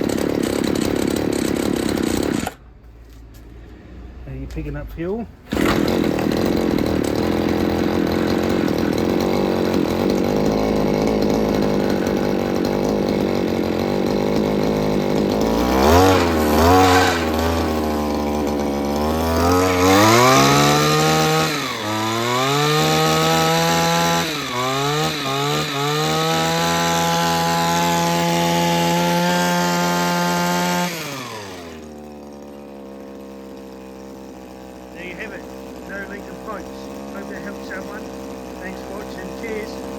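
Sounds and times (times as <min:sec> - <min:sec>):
hedge trimmer engine revving: 0:00.0 - 0:39.9.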